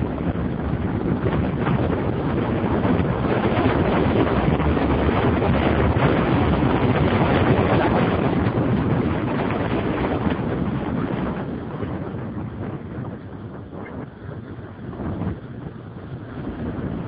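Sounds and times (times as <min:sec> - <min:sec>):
motorcycle engine and tyre noise: 0:00.0 - 0:17.0
wind rushing over microphone: 0:00.0 - 0:17.0.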